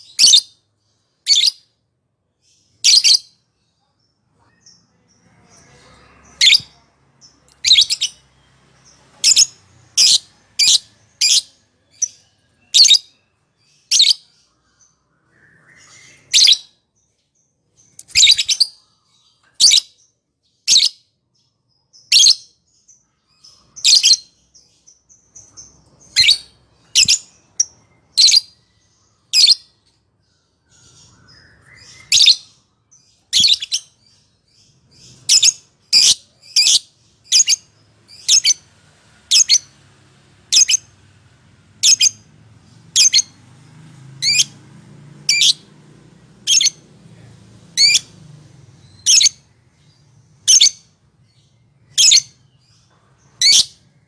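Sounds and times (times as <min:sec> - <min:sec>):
lovebird chirping: 0:00.0 - 0:01.8, 0:02.4 - 0:39.9, 0:40.5 - 0:41.2, 0:41.8 - 0:45.8, 0:46.4 - 0:46.9, 0:47.7 - 0:54.0.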